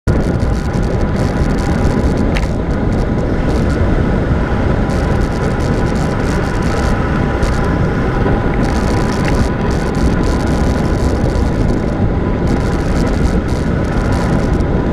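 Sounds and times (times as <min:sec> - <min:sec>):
bicycle tyre noise on asphalt: 0:00.0 - 0:14.9
wind rushing over microphone: 0:00.0 - 0:14.9.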